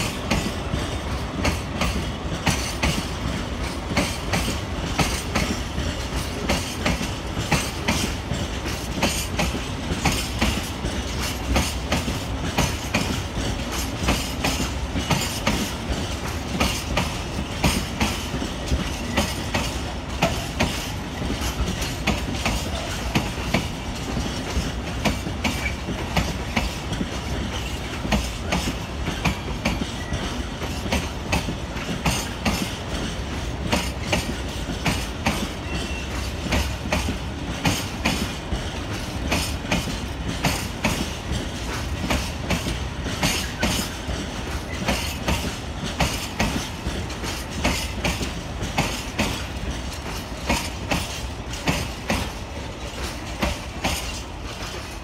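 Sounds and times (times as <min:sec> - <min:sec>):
low train rumble: 0:00.0 - 0:55.0
train wheels clacking over rail joints: 0:00.0 - 0:55.0.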